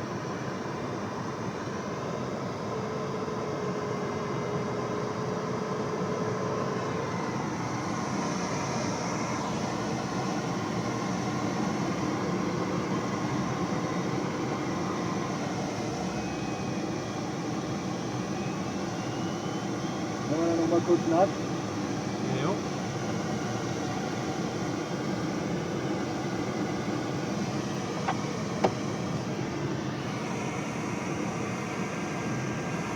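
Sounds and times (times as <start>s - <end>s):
aircraft cockpit airflow and hum: 0.1s - 32.9s.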